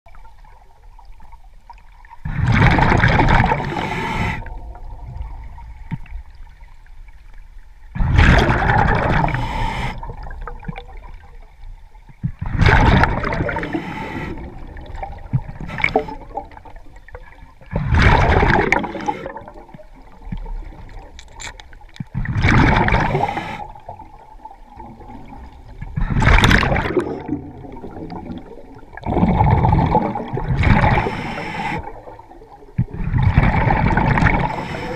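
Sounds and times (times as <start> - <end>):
underwater gurgling: 0.1 - 34.9
exhaled bubbles rushing: 2.2 - 6.7, 8.0 - 11.4, 12.3 - 21.1, 22.1 - 34.9.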